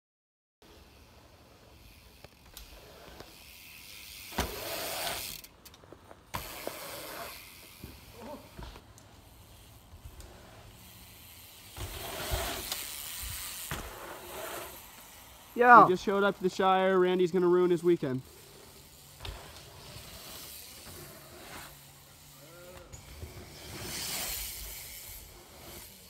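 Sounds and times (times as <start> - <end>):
bike tyres hissing over dirt: 0.6 - 26.0.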